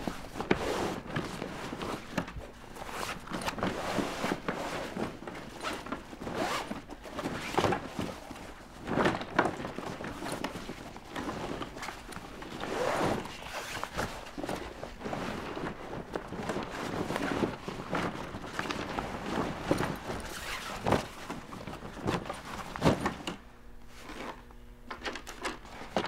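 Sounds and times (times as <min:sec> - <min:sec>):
fabric rustling and scraping: 0:00.0 - 0:24.5.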